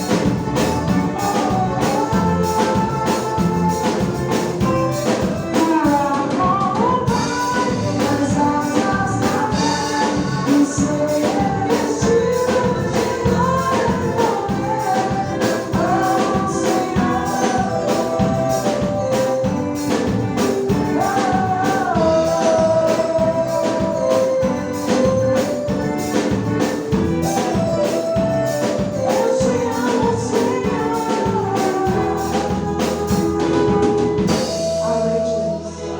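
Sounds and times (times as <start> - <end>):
drums: 0.0 - 35.6
person singing: 0.0 - 35.9.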